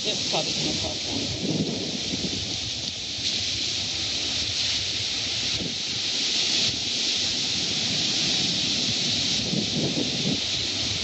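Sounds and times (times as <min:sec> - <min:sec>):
waves washing onto beach: 0:00.0 - 0:11.0
wind rumbling on microphone: 0:00.0 - 0:11.0.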